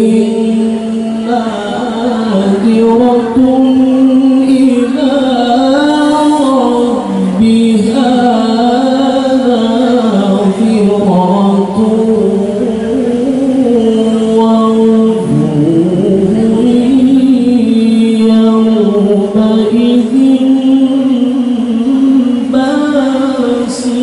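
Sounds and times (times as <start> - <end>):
man chanting into a microphone: 0.0 - 24.0.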